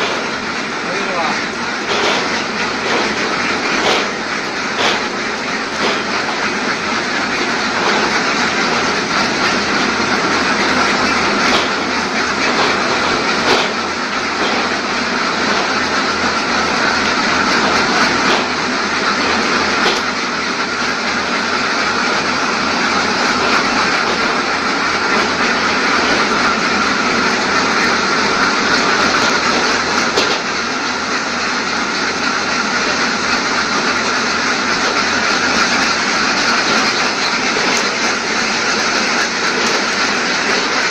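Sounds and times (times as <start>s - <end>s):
egg collection machinery clattering: 0.0s - 40.9s.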